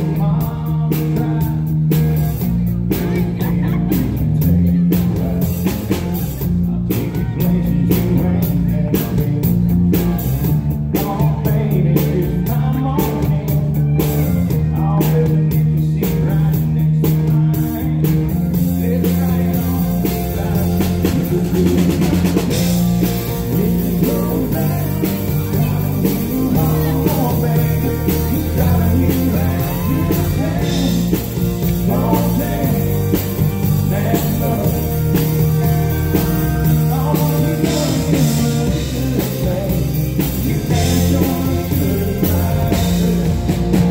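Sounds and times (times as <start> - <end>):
live country band: 0.0 - 43.9
man singing: 0.0 - 43.9.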